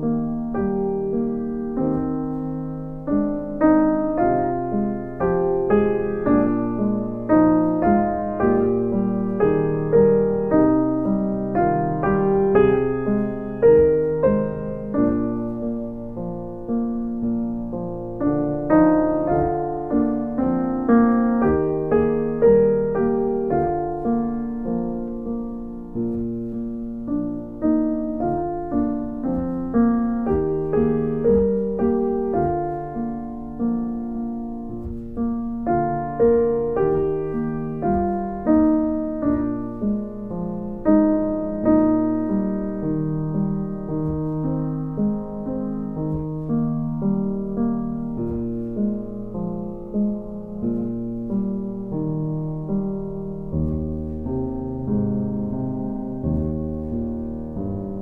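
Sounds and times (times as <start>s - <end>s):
gentle piano melody: 0.0s - 58.0s.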